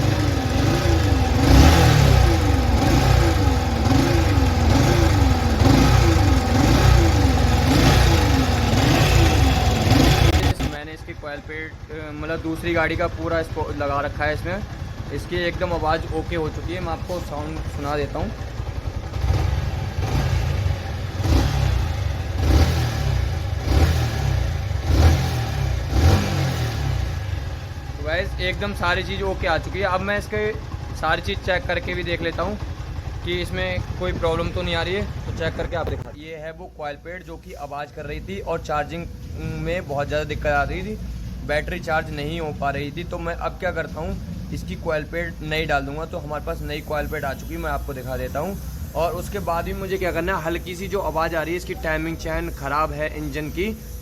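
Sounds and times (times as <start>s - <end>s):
engine whine: 0.0s - 36.2s, 37.2s - 54.0s
motorcycle engine idling: 0.0s - 54.0s.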